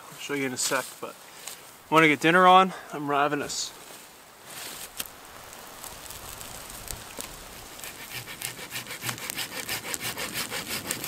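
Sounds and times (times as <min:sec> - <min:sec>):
campfire crackling: 0:00.1 - 0:11.0.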